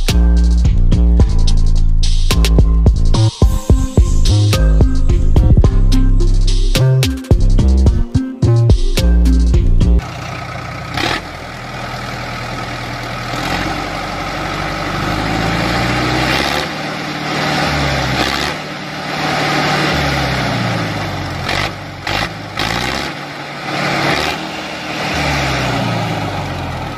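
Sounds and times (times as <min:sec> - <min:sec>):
tractor engine revving: 0:00.0 - 0:26.9.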